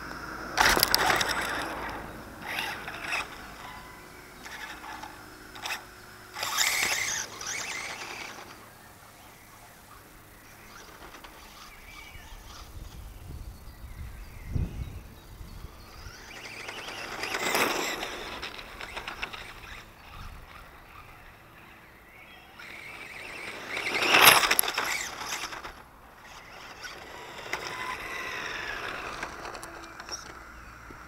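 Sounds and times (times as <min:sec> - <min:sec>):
model car motor whine: 0:00.0 - 0:31.0.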